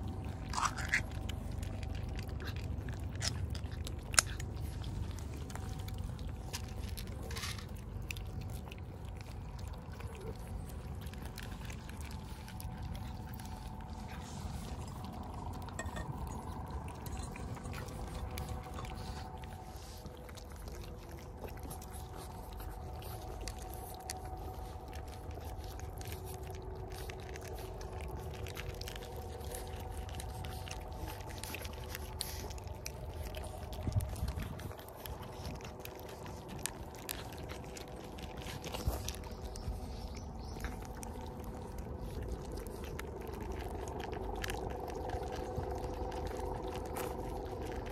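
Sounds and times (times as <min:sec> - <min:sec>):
cats chewing and licking: 0:00.0 - 0:47.9
steady low rumble: 0:00.0 - 0:47.9.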